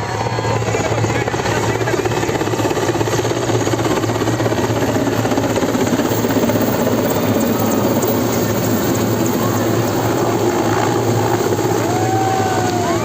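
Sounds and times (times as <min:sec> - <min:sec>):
helicopter rotor pulsing: 0:00.0 - 0:13.0.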